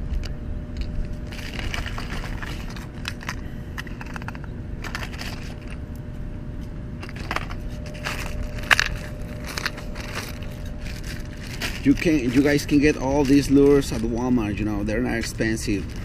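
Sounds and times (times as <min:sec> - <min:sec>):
steady low rumble: 0:00.0 - 0:16.0
plastic packaging crinkling: 0:00.8 - 0:05.8, 0:07.0 - 0:16.0.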